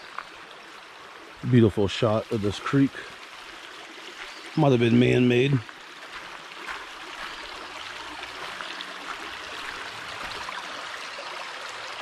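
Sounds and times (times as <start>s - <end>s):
creek water flowing over stones: 0.0s - 12.0s.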